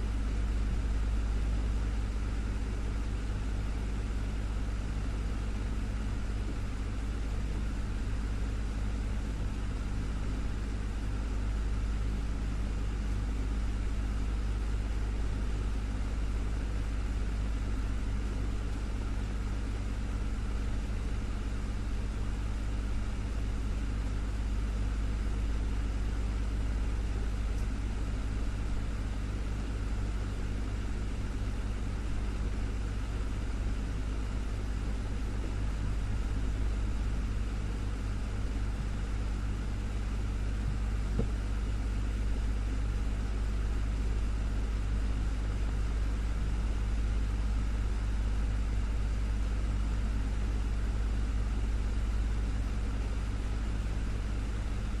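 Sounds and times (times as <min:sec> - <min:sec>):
desktop fan running: 0:00.0 - 0:55.0.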